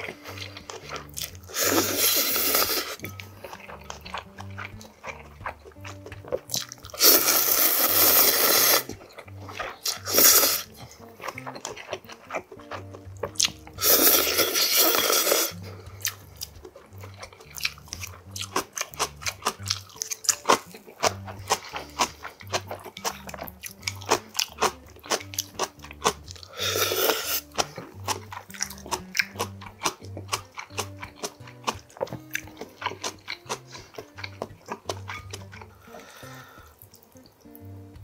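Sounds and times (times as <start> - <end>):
noodles slurped noisily: 0.0 - 36.8
background music: 0.0 - 38.0
mouth clicks: 0.0 - 38.0
wet chewing: 0.0 - 38.0.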